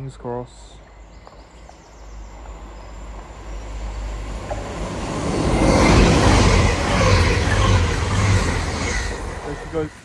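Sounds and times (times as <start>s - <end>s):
train passing on rails: 0.1s - 10.0s.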